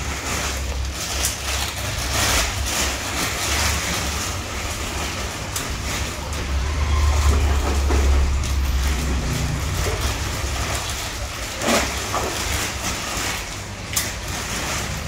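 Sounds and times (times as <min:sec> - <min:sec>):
plastic bag rustling: 0:00.0 - 0:15.0
aquarium aerator hum and hiss: 0:02.4 - 0:15.0.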